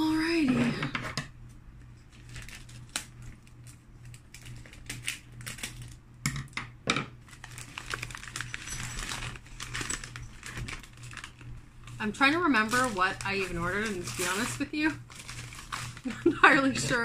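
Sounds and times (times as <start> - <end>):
plastic bag crinkling: 2.1 - 6.0, 7.2 - 17.0.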